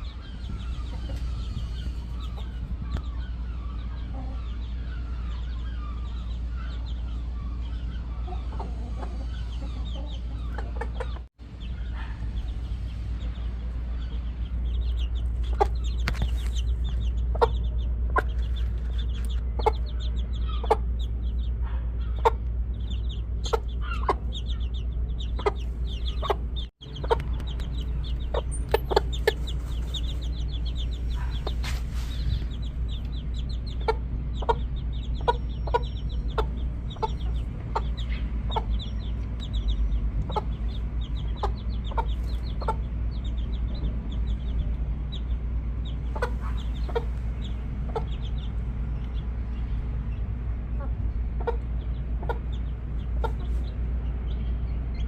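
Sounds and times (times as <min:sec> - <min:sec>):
chickens clucking: 0:00.0 - 0:55.0
low rumble: 0:00.0 - 0:55.0.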